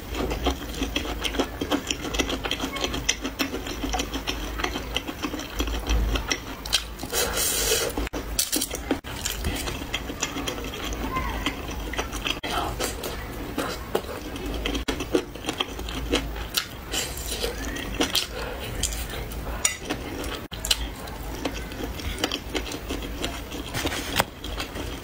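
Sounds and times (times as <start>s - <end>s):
wet chewing and biting: 0.0s - 25.0s.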